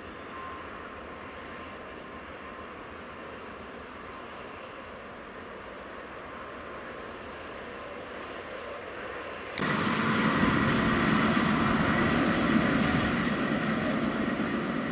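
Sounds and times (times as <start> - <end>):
electric train whine: 0.0 - 14.9
train rumbling: 0.0 - 14.9.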